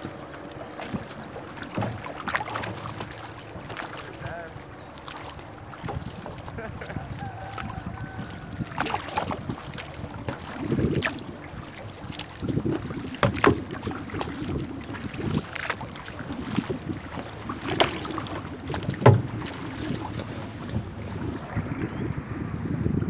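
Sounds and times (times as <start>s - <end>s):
paddle splashing: 0.0s - 21.8s
water lapping: 0.0s - 23.0s
wind buffeting microphone: 0.0s - 23.0s.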